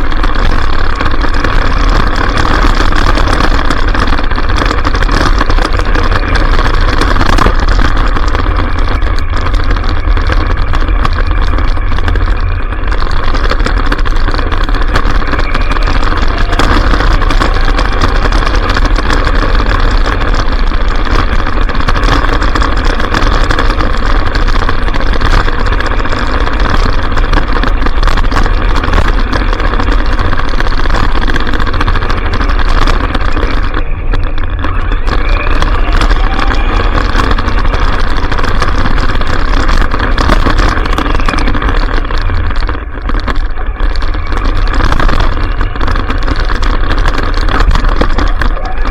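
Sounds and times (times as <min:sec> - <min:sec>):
chassis rattling and bumping: 0:00.0 - 0:48.9.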